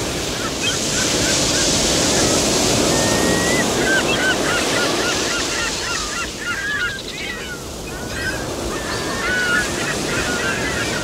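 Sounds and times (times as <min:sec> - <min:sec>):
surf rushing: 0:00.0 - 0:11.0
wind: 0:00.0 - 0:11.0.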